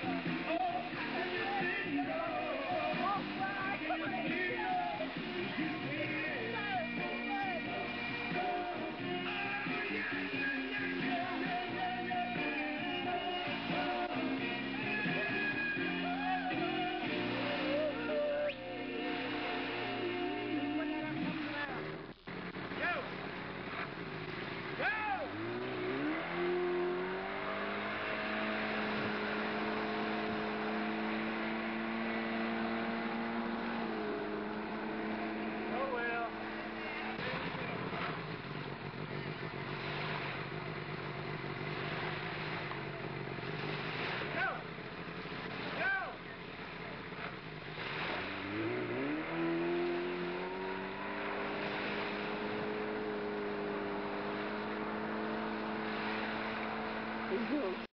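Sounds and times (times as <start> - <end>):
motorboat engine revving: 0.0 - 57.9.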